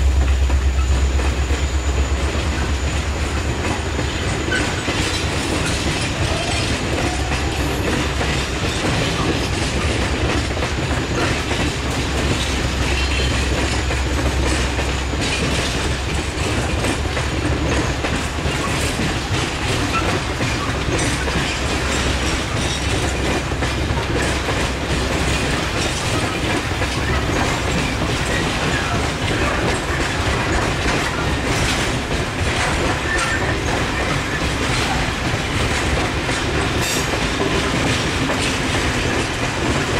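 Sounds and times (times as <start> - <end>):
freight train wheels rumbling: 0.0 - 39.9
wheels clacking over rail joints: 0.0 - 39.9.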